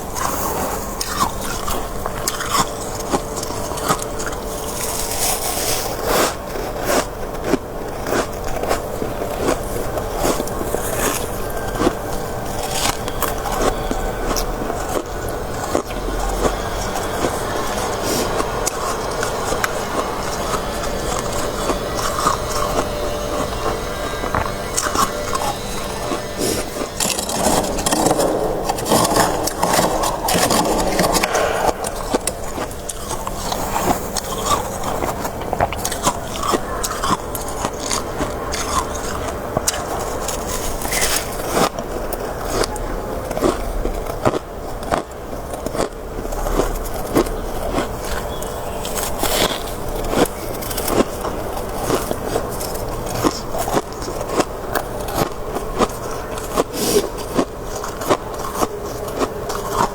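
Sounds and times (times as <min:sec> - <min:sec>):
chewing and crunching ice: 0:00.0 - 0:59.9.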